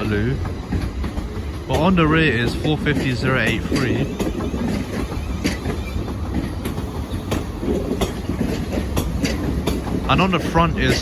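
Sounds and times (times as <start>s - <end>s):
train rumbling past: 0.0s - 11.0s
wheels clacking over rail joints: 0.0s - 11.0s.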